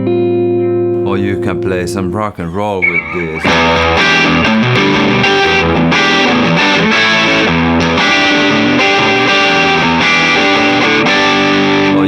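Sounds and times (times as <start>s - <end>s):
distorted electric guitar riff: 0.0s - 12.0s.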